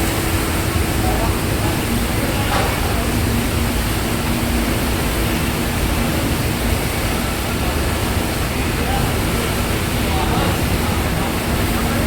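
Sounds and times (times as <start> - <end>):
ferry engines humming: 0.0 - 12.0
wind and water rushing: 0.0 - 12.0.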